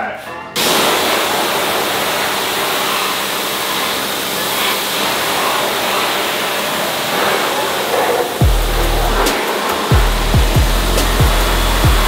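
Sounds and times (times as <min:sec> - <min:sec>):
pressure washer spraying water: 0:00.6 - 0:12.0.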